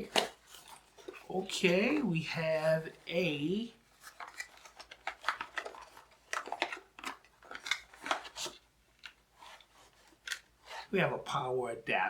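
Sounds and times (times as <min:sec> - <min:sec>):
packaging rustling: 0:00.0 - 0:10.9.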